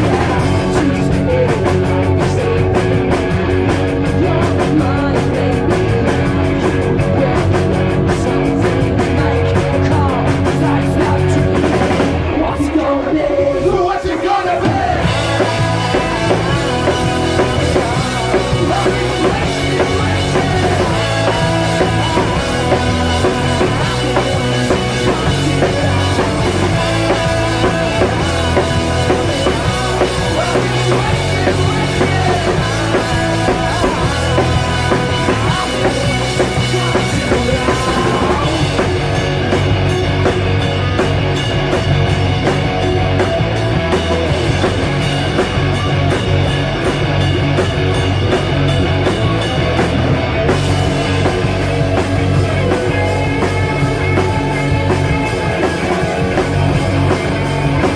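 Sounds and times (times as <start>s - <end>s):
rock band playing live: 0.0s - 57.9s.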